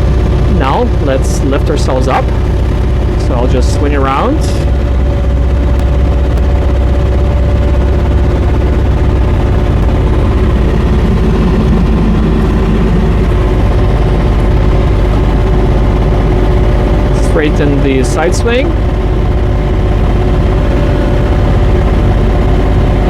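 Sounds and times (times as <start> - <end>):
excavator diesel engine rumble: 0.0 - 23.0
hydraulic whine: 0.0 - 23.0.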